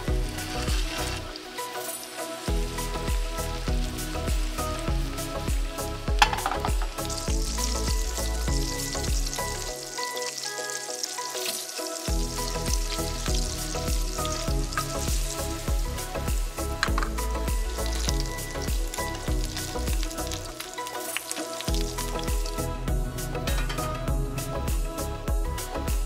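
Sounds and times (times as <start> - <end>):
meatballs sizzling in oil: 0.0 - 26.0
soft background music: 0.0 - 26.0.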